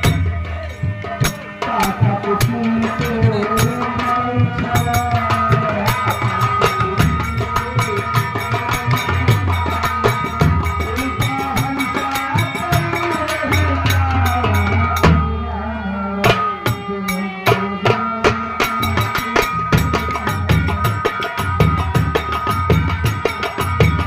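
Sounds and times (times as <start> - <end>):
fast hand-drum strokes: 0.0 - 15.4, 16.2 - 24.0.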